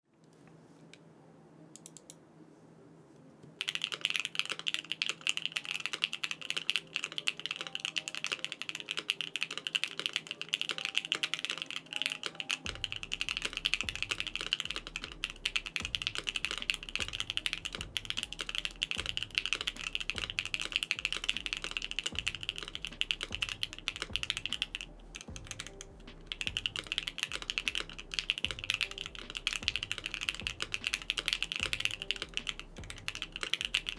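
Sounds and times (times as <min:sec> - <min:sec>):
mechanical keyboard typing: 0:03.6 - 0:33.9.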